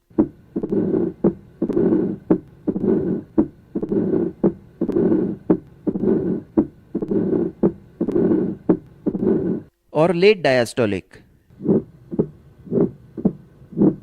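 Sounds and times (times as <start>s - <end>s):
heart murmur: 0.1s - 9.7s, 11.5s - 14.0s
heart sounds: 0.1s - 9.7s, 11.5s - 14.0s.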